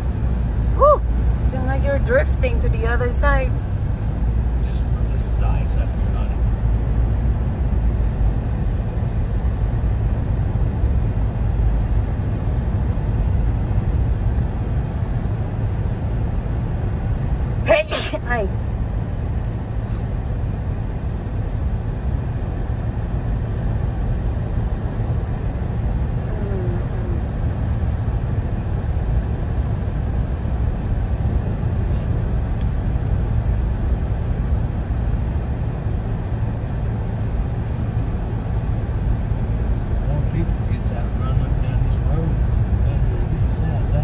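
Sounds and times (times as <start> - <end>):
car tyre noise on snowy road: 0.0 - 44.0.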